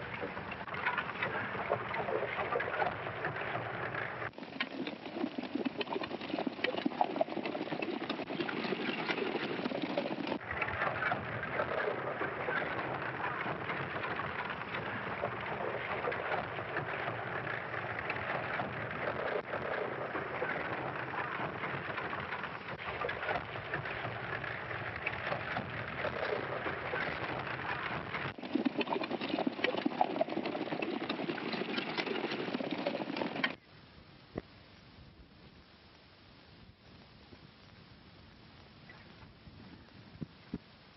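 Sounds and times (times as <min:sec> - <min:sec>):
horse hooves clattering: 0:00.0 - 0:33.6
wagon wheels clattering: 0:00.0 - 0:33.6.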